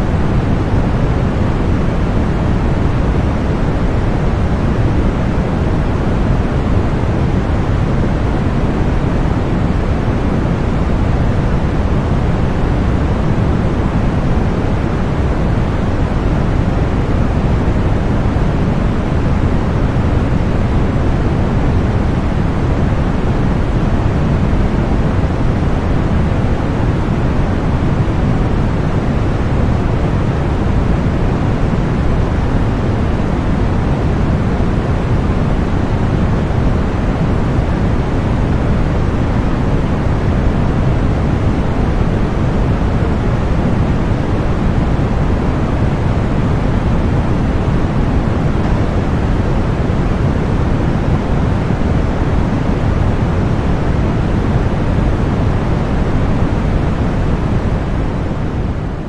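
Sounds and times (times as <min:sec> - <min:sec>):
deep even white noise hiss: 0:00.0 - 0:59.0.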